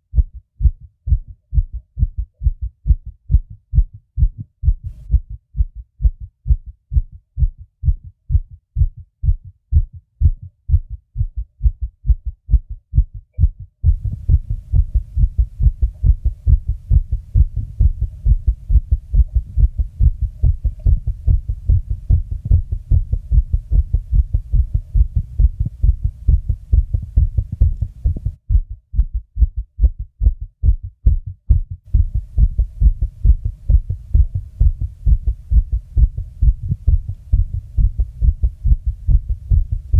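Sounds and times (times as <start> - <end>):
fast heartbeat thumps: 0.0 - 39.9
low steady rumble: 0.2 - 39.9.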